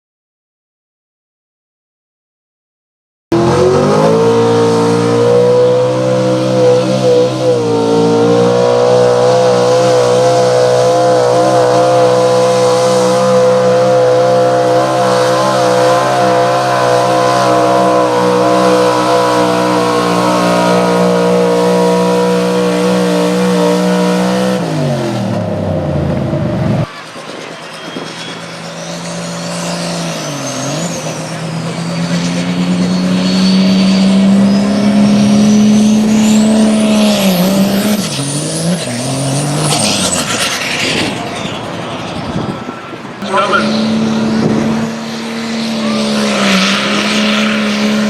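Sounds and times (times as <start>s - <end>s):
truck engine at full throttle: 3.3s - 48.0s.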